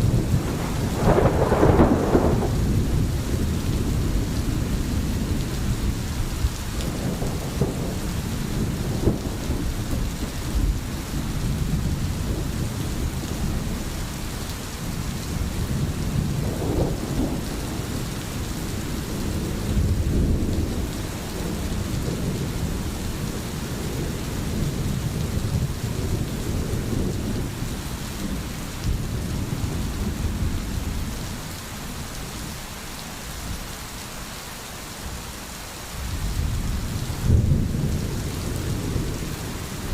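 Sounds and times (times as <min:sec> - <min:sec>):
low rolling thunder: 0:00.0 - 0:32.2, 0:36.0 - 0:39.9
steady rain falling: 0:00.0 - 0:39.9.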